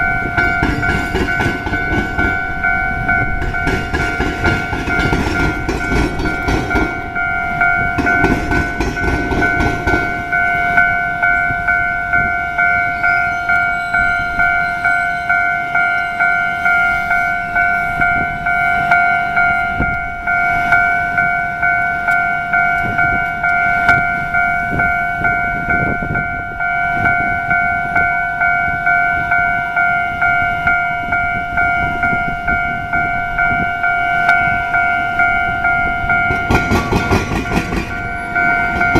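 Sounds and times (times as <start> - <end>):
level crossing alarm dings: 0.0 - 38.9
low train rumble: 0.0 - 38.9.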